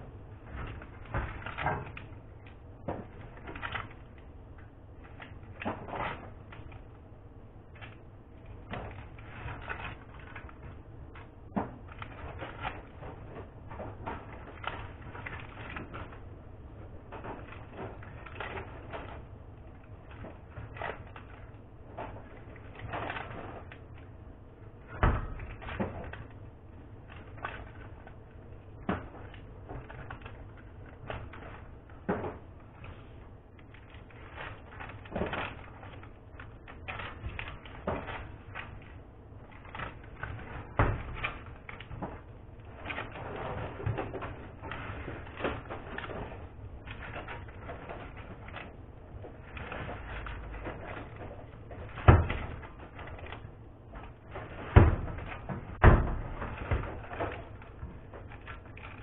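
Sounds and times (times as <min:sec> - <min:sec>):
hands wrapping in foil and cellophane: 0:00.0 - 0:59.0.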